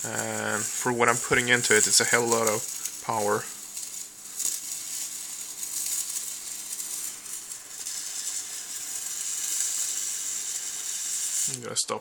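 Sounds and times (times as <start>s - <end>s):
electric arc hissing: 0.0s - 12.0s.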